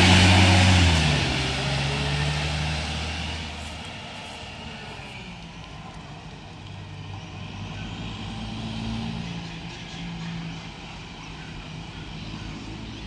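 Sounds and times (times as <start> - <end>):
diesel engine with exhaust leak: 0.0 - 13.0.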